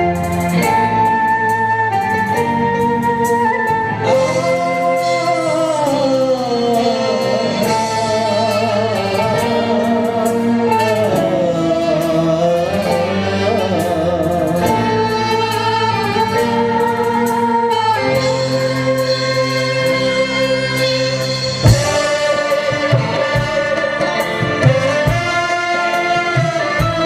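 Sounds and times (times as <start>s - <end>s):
live band music with wavering melody: 0.0s - 27.0s.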